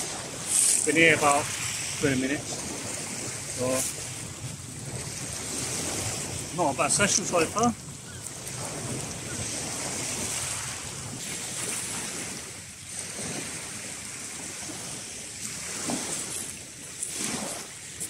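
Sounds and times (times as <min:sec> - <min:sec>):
waves washing over shingle: 0:00.0 - 0:18.0.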